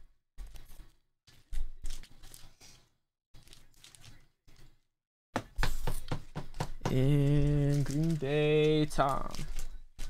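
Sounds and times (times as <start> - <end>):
cards and plastic sleeves rustling: 0.4 - 4.9, 5.6 - 10.0.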